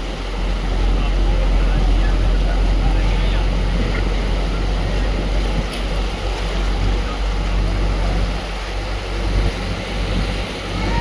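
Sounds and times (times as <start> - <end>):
hiss of rain and water: 0.0 - 11.0
vehicle engine and road rumble: 0.0 - 11.0.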